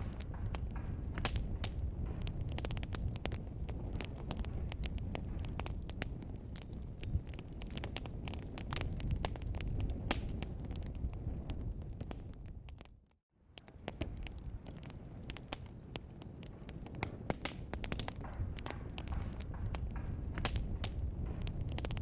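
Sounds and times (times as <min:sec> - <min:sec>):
fireplace fire crackling: 0:00.0 - 0:22.0.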